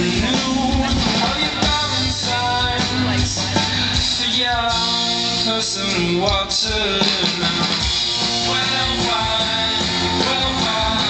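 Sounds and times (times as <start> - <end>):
bass guitar: 0.0 - 11.0
electric guitars: 0.0 - 11.0
live band music: 0.0 - 11.0.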